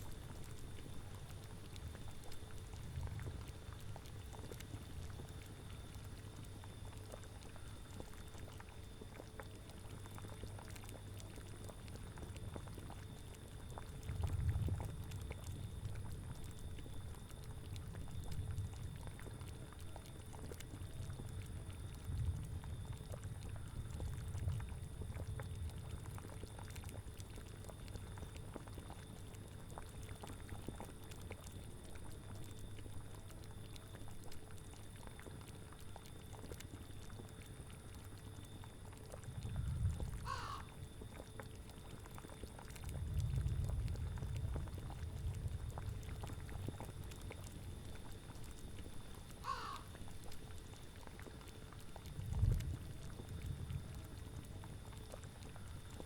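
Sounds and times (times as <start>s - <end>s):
liquid boiling and gurgling: 0.0s - 56.0s
small bubble pops: 0.0s - 56.0s.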